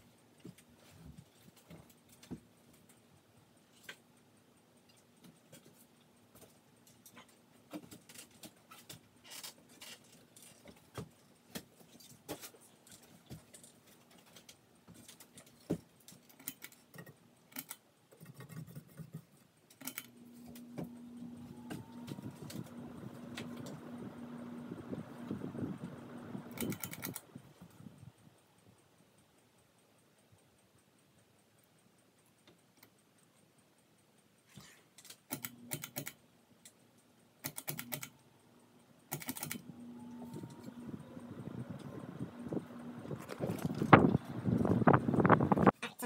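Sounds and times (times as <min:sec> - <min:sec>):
light clicks and rattles: 0:00.0 - 0:38.2
ceiling fan motor hum: 0:00.0 - 0:46.0.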